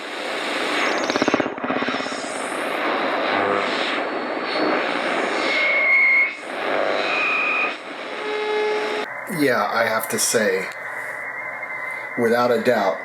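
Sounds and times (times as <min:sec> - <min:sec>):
radio static and hiss: 0:00.0 - 0:13.0
rapid radio pulses: 0:00.0 - 0:13.0
steady radio tone: 0:00.0 - 0:13.0.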